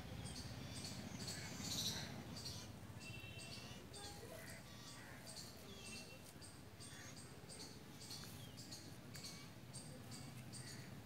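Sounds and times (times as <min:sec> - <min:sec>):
insects and birds chirping: 0:00.1 - 0:11.0.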